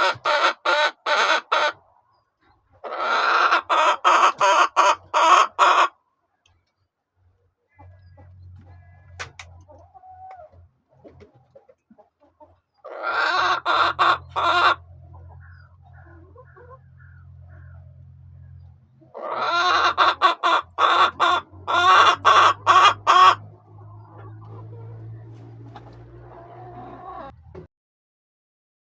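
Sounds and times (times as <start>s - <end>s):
chicken cackling: 0.0s - 6.8s, 7.4s - 27.4s
chicken clucking softly: 0.0s - 17.9s, 18.5s - 27.7s.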